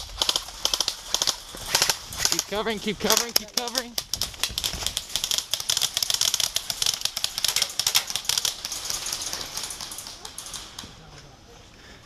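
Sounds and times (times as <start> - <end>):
airsoft guns firing in bursts: 0.0 - 10.9.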